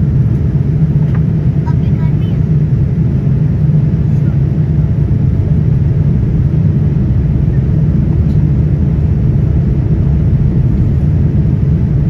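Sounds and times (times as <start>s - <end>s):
airliner engines rumbling: 0.0s - 12.0s.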